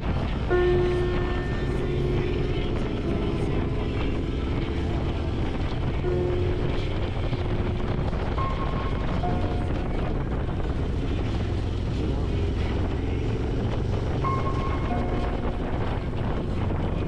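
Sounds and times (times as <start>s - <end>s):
wind rushing over microphone: 0.0s - 17.0s
motorcycle engine running: 0.9s - 17.0s.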